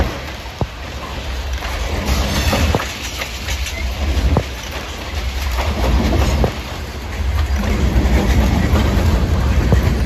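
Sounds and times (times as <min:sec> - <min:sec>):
train wheels clickety-clack on rails: 0:00.0 - 0:10.0.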